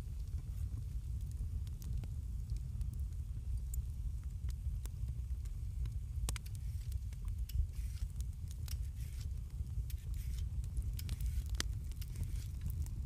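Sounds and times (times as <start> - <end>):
low rumble: 0.0 - 13.0
wood fire crackling: 0.0 - 13.0.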